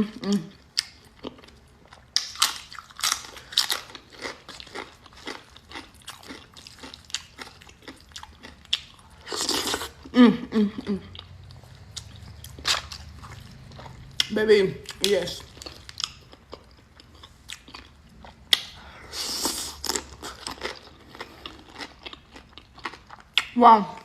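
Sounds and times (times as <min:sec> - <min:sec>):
crunching and chewing chips: 0:00.5 - 0:10.1, 0:11.1 - 0:14.3, 0:14.9 - 0:23.6.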